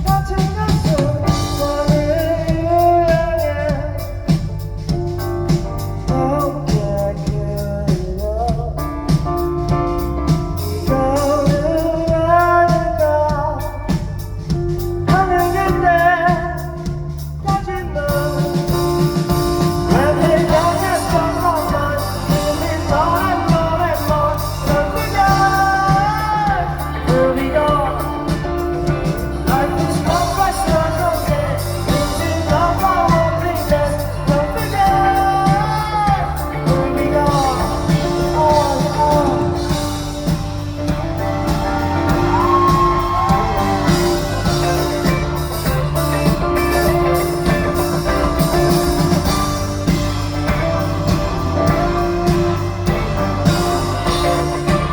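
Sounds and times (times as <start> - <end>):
live rock band playing: 0.0 - 54.9
person singing: 0.0 - 54.9.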